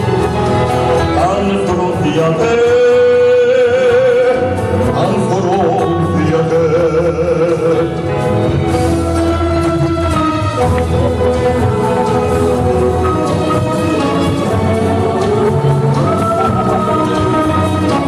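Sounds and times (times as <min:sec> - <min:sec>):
musical accompaniment: 0:00.0 - 0:18.0
man singing with vibrato: 0:00.9 - 0:18.0.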